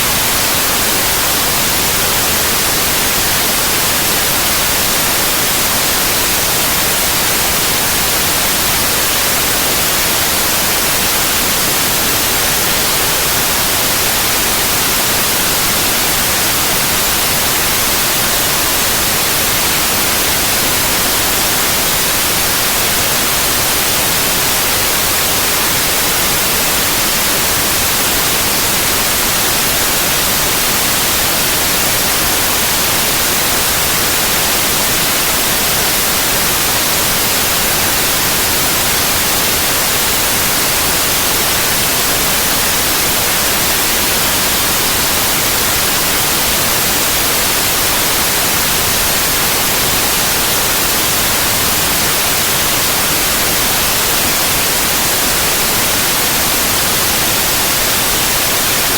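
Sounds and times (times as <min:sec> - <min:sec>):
steady white noise hiss: 0:00.0 - 0:58.9.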